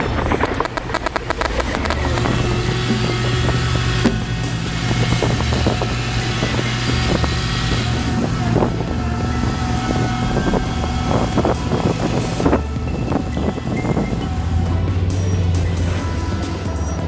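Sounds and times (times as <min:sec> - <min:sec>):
heavy machinery engine running: 0:00.0 - 0:17.0.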